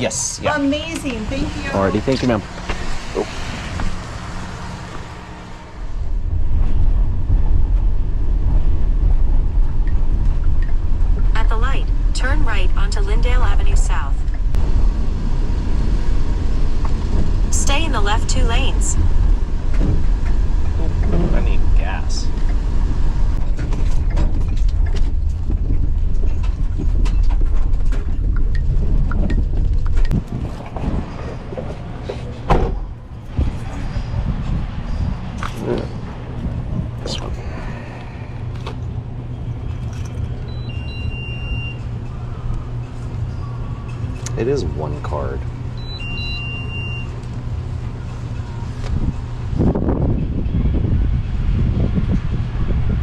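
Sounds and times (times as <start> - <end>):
vehicle driving rumble: 0.0 - 53.0.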